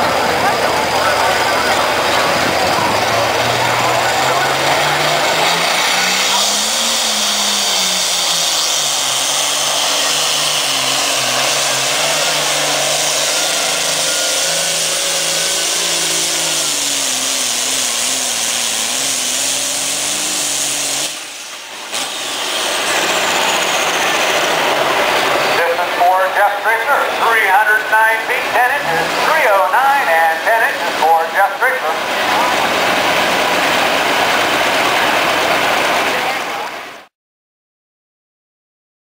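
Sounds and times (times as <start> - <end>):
tractor diesel engine under load: 0.0 - 37.1.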